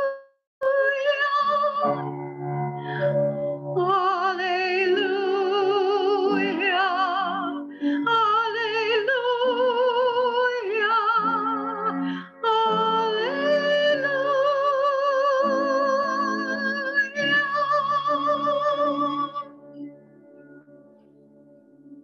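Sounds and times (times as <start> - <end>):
woman singing with vibrato: 0.0 - 2.3, 3.8 - 19.5.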